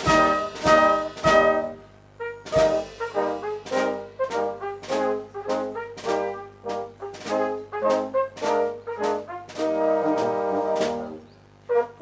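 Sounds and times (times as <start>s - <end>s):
percussion stroke: 0.0s - 11.2s
brass band playing: 0.0s - 12.0s.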